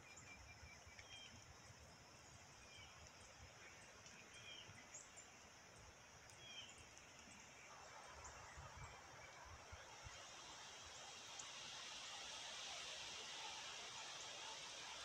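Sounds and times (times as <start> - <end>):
soft outdoor air hiss: 0.0 - 15.0.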